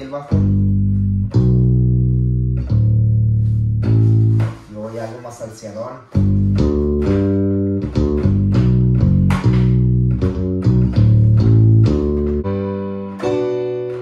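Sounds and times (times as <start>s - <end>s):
salsa bass line: 0.0s - 14.0s.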